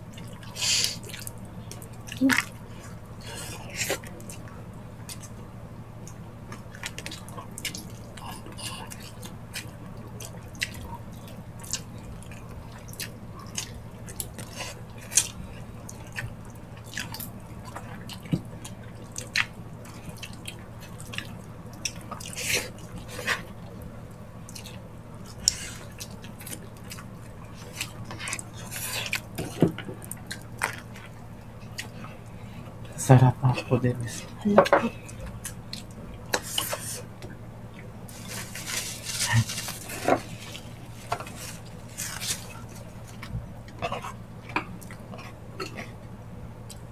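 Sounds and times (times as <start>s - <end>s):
people chewing wetly: 0.0s - 5.4s, 6.0s - 46.9s.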